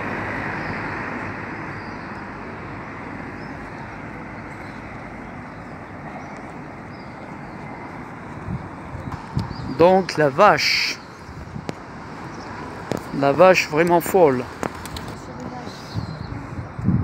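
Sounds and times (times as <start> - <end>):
car passing: 0.0 - 16.8
city traffic hum: 0.0 - 17.0.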